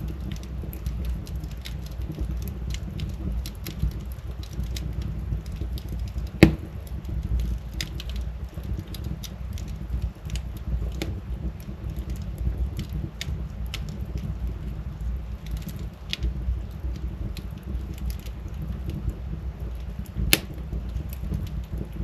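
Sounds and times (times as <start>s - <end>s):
loud pop of burning wood: 0.0s - 14.8s, 15.4s - 22.0s
fire crackling: 0.0s - 22.0s
fire flames rumbling: 0.0s - 22.0s.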